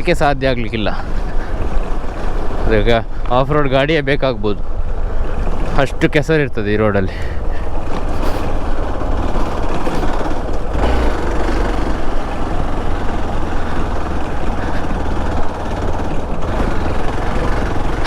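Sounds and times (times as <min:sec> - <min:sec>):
motorcycle engine running: 0:00.9 - 0:03.7, 0:04.9 - 0:18.0.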